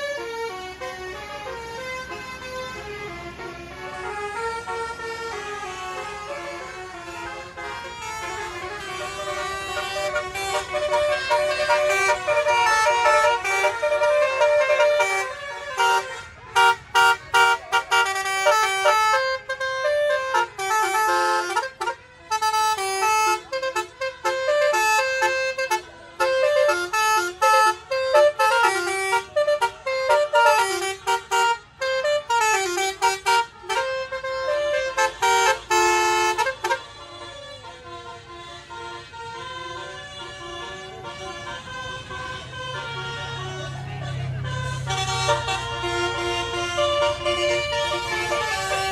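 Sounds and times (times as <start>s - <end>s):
multi-tone bus horn playing tunes: 0.0s - 48.9s.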